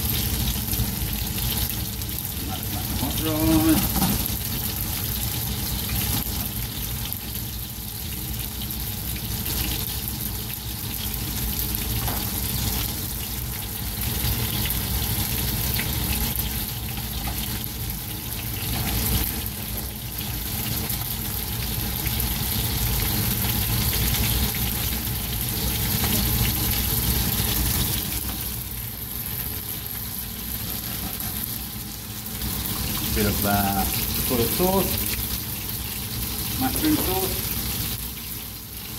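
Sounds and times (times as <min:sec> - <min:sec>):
fish frying in oil: 0:00.0 - 0:38.9
rice stir-frying in pan: 0:00.0 - 0:38.9.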